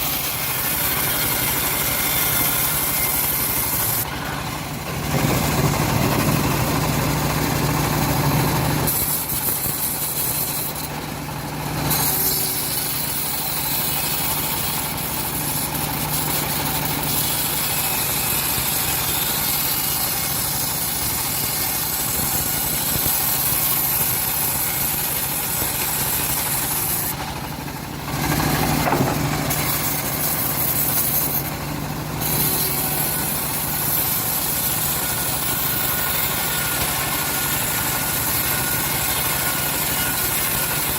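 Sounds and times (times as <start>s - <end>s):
bandsaw mill sawing log: 0.0s - 40.9s.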